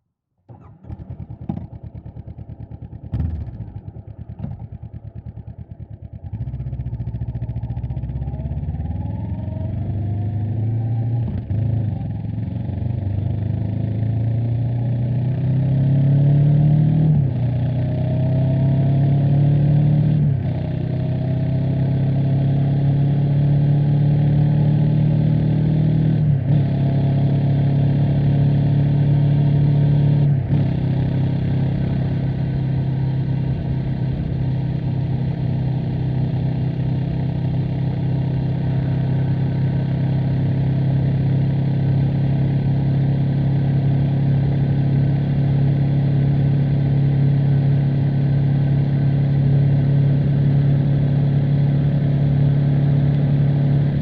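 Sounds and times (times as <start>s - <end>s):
motorcycle engine idling and accelerating: 0.4s - 54.0s.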